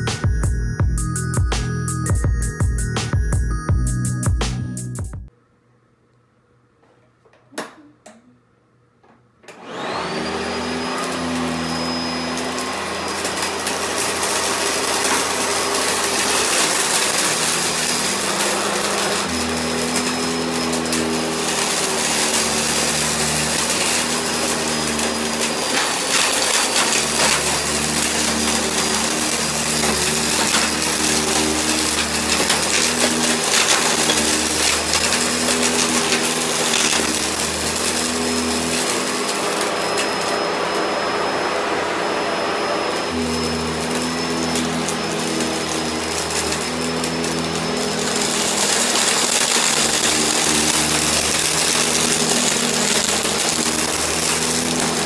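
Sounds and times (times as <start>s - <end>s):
vacuum cleaner motor running: 9.4s - 55.0s.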